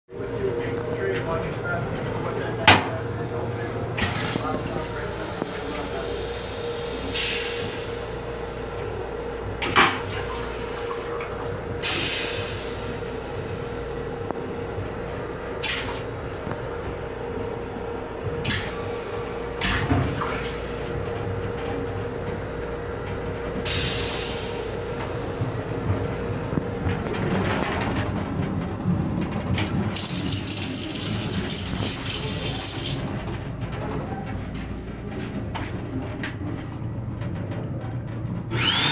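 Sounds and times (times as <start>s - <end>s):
constant hum: 0.1s - 38.9s.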